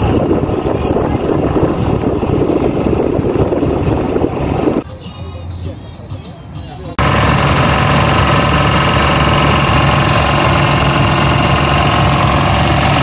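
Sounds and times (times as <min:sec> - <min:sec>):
boat engine running: 0:00.0 - 0:04.8, 0:07.0 - 0:13.0.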